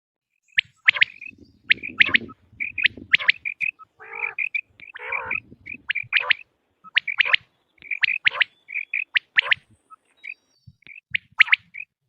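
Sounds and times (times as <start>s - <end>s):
quail calls: 0.6s - 11.9s.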